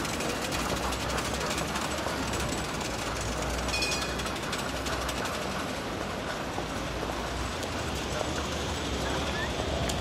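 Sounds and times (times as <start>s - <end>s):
vehicle ride rumble: 0.0s - 10.0s.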